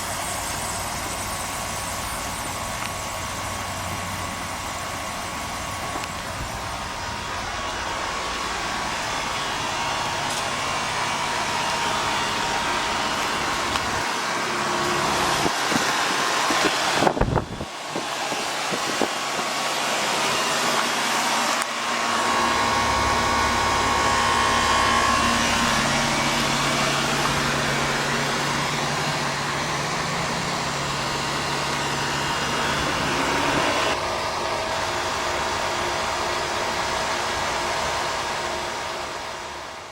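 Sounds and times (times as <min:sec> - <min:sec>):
dehumidifier fan running: 0:00.0 - 0:39.9.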